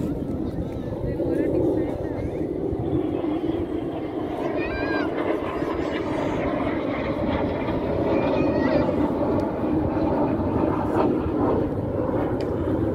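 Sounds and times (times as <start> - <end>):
jet engines flying past: 0.0 - 12.9.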